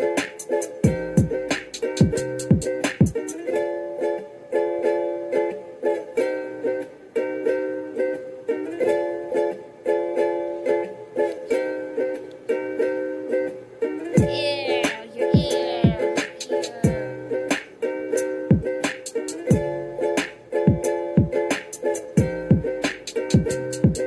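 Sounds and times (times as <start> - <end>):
bouncy plucked-string music: 0.0 - 24.0.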